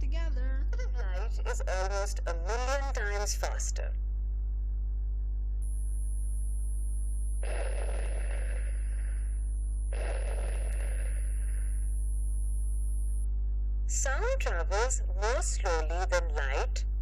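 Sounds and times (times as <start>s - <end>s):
electrical hum with high whine: 0.0s - 17.0s.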